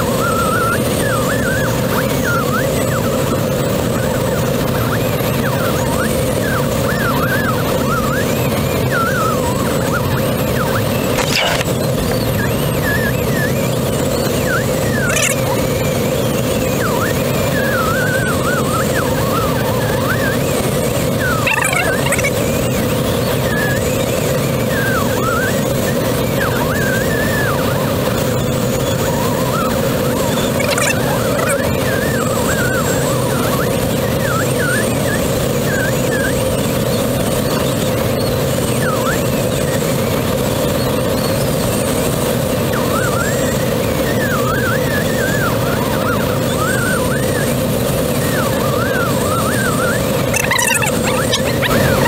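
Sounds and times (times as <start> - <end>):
thin tone gliding in pitch: 0.0 - 36.4, 42.7 - 52.0.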